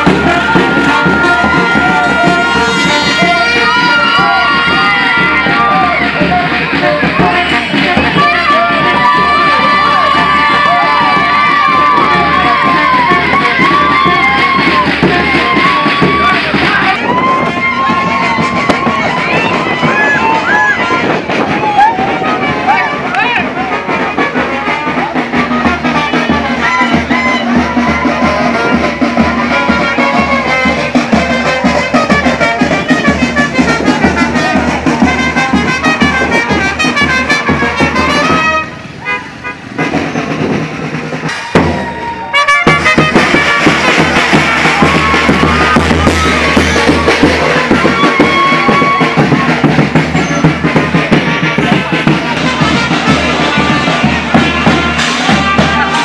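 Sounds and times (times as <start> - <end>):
brass band playing a lively tune: 0.0 - 56.0.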